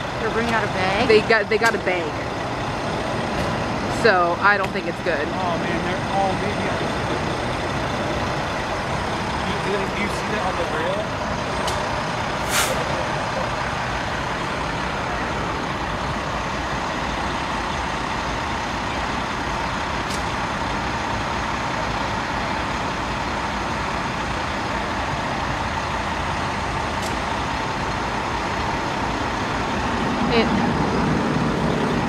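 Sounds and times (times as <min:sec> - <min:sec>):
heavy vehicles idling: 0:00.0 - 0:32.0.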